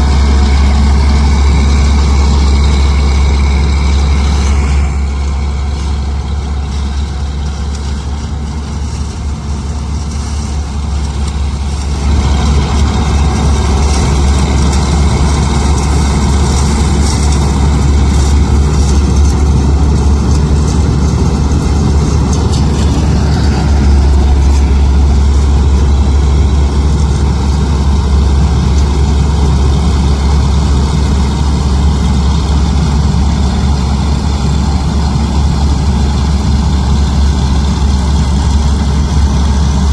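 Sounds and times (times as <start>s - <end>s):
diesel farm machinery running: 0.0s - 39.9s.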